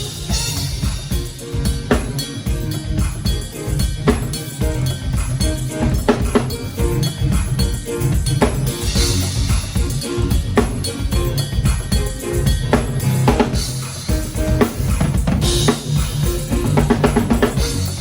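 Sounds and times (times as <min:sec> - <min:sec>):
band music: 0:00.0 - 0:18.0
cymbal crashes: 0:00.0 - 0:18.0.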